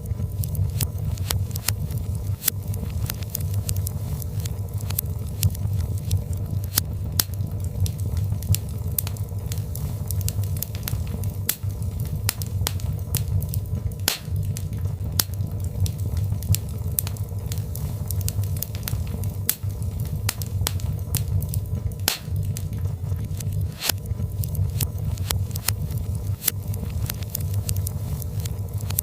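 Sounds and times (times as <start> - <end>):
fire crackling and popping: 0.0 - 29.0
low fire rumble: 0.0 - 29.0.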